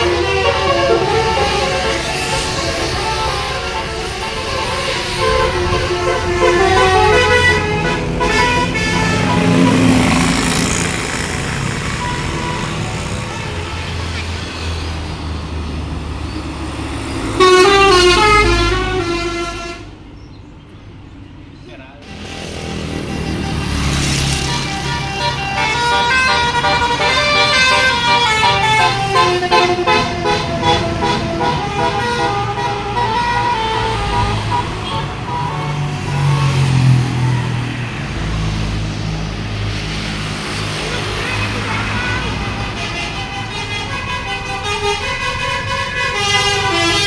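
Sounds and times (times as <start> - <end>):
musical bus horn tune: 0.0 - 15.8, 16.5 - 20.1, 22.0 - 38.9, 40.3 - 47.0
bus engine running: 0.0 - 47.0.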